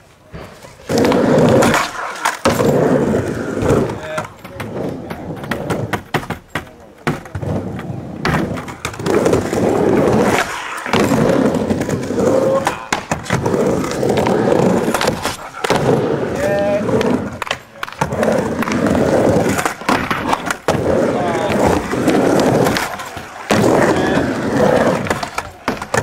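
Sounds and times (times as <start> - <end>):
skateboard wheels rolling on ramp: 0.1 - 26.0
skateboard clacking on ramp: 0.9 - 26.0.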